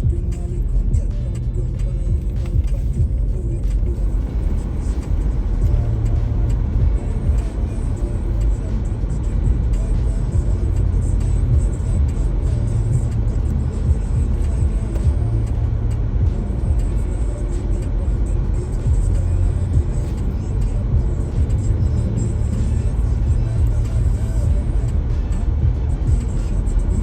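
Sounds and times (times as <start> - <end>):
low vehicle rumble: 0.0 - 27.0
music playing: 0.0 - 27.0.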